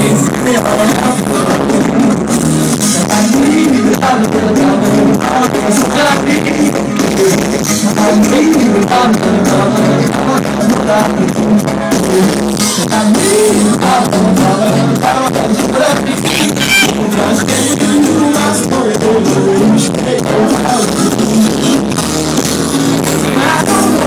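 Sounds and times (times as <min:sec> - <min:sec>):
live band with lead singer: 0:00.0 - 0:24.0.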